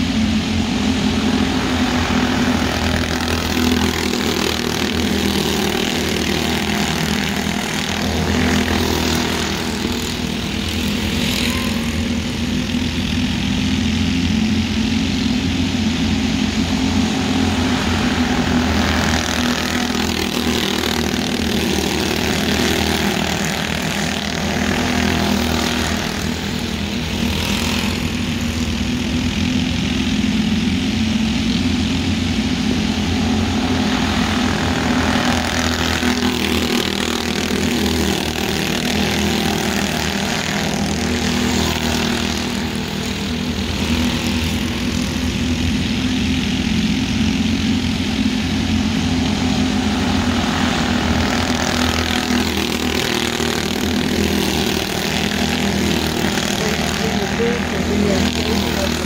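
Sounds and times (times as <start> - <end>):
race car engines buzzing: 0.0 - 59.0.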